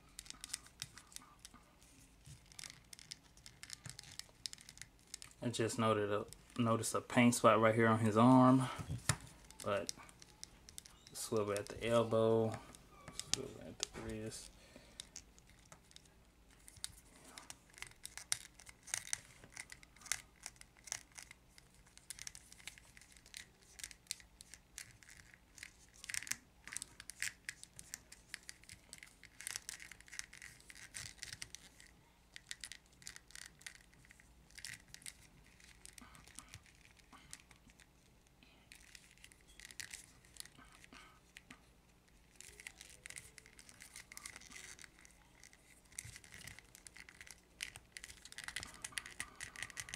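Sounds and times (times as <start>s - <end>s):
faint clicks and scratches: 0.0s - 49.9s.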